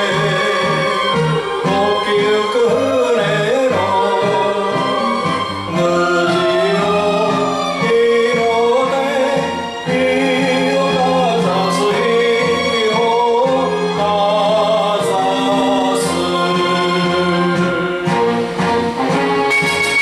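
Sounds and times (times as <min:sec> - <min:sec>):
man singing a ballad: 0:00.0 - 0:18.3
instrumental backing track: 0:00.0 - 0:20.0.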